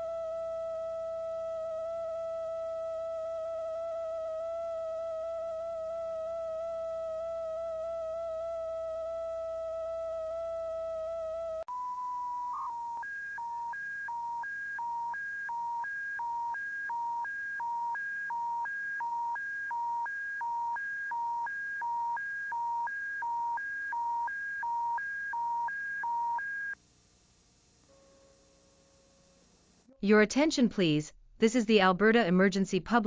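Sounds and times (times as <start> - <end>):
emergency alert tones: 0.0 - 26.8.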